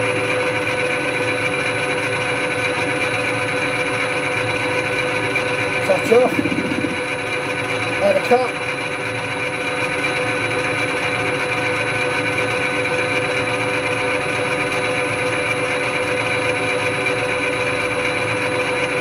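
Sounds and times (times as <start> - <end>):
metal lathe humming and whining: 0.0 - 19.0.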